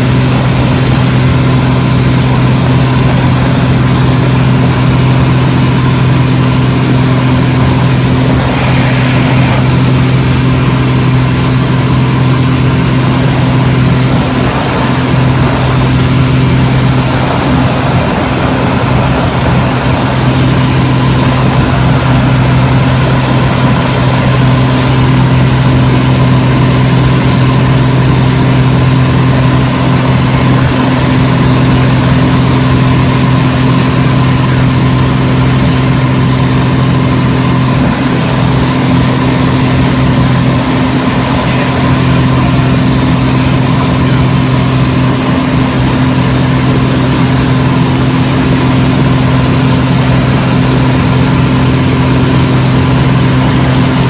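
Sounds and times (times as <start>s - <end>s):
propeller plane engine drone: 0.0s - 54.0s
wind noise: 0.0s - 54.0s.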